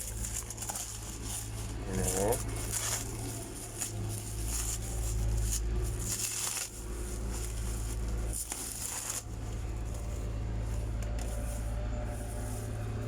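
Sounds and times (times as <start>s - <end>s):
plastic wrap crinkling: 0.0s - 13.0s
steady low rumble: 0.0s - 13.0s.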